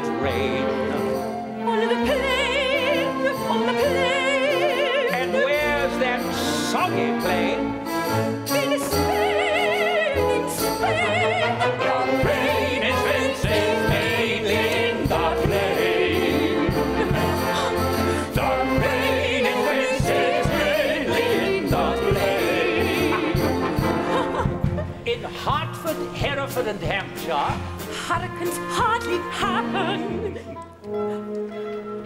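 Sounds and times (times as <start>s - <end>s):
orchestra playing dance music: 0.0s - 30.8s.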